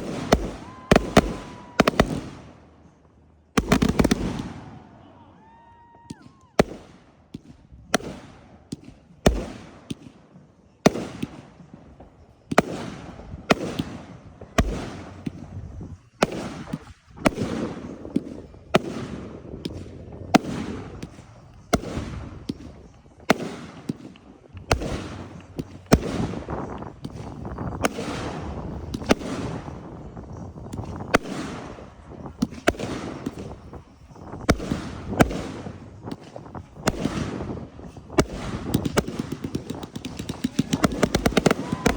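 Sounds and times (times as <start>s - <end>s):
fireworks booming and crackling: 0.0s - 41.9s.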